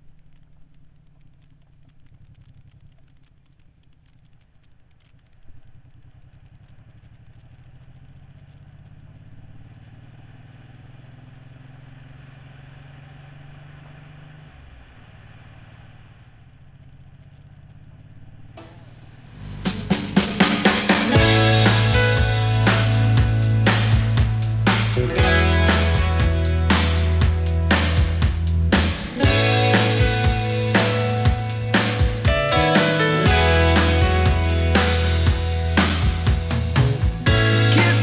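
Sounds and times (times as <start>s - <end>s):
motorcycle engine running: 0.0s - 14.6s, 16.4s - 38.0s.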